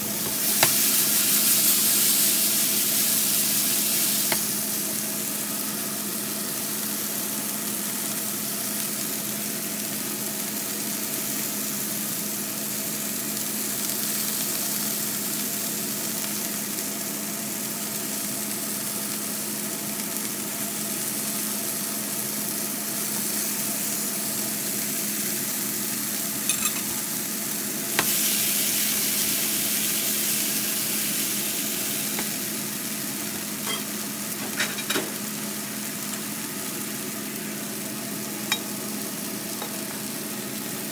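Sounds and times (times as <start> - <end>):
steak sizzling in a frying pan: 0.0 - 40.9.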